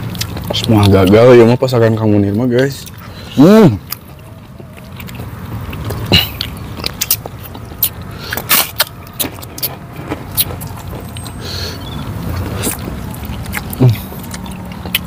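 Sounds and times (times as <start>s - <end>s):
cracker crunching: 0.0s - 15.0s
low steady rumble: 0.0s - 15.0s
wet chewing and mouth smacks: 0.0s - 15.0s.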